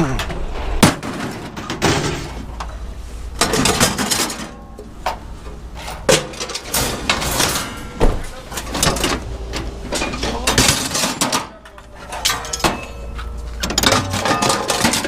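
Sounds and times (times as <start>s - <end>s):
scrap metal clanking and banging: 0.0s - 15.0s.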